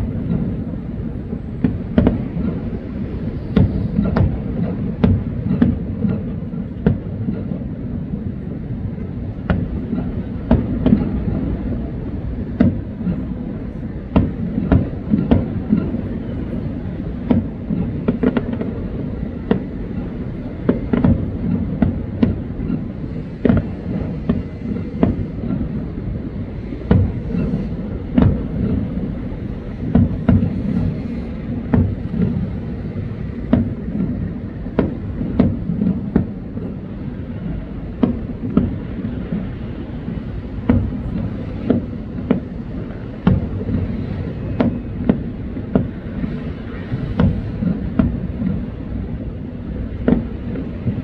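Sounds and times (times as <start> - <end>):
fireworks bursting: 0.0 - 51.0
steady low rumble: 0.0 - 51.0.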